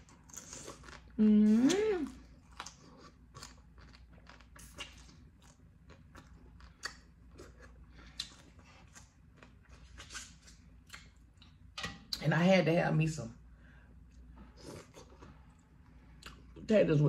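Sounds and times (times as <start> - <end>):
chewing and lip-smacking: 0.0 - 11.6, 14.1 - 16.6.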